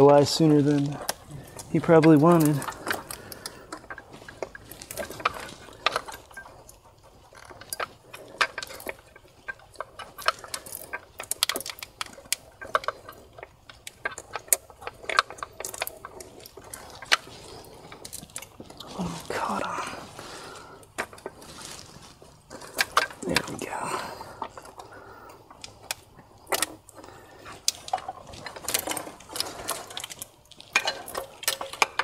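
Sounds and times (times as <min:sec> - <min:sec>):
plastic and metal parts rattling: 0:00.0 - 0:32.0.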